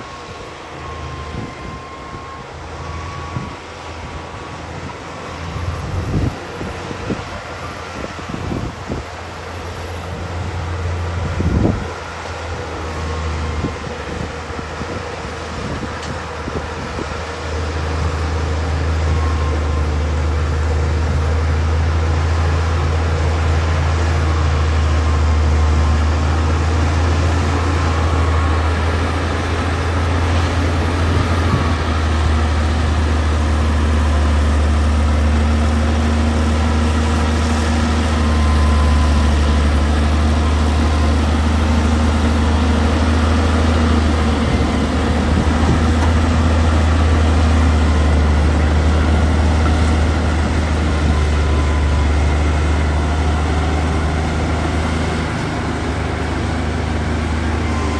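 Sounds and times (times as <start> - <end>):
heavy diesel engine running: 0.0 - 57.9.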